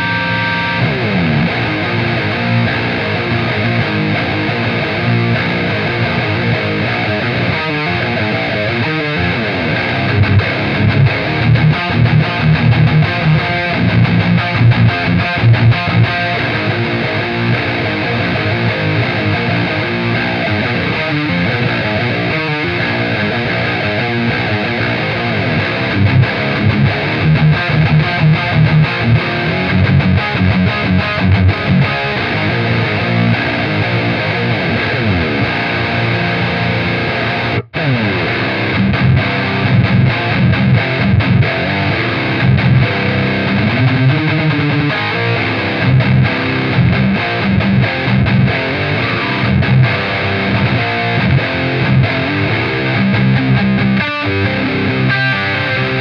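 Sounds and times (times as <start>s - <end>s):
distorted electric guitar riffing: 0.0s - 56.0s.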